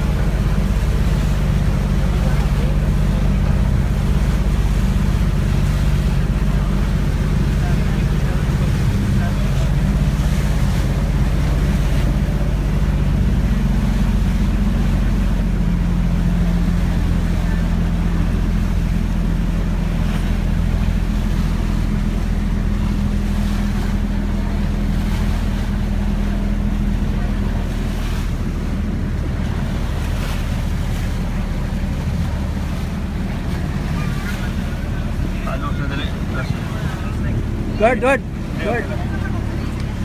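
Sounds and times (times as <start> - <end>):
boat motor droning: 0.0 - 40.0
water rushing against hull: 0.0 - 40.0.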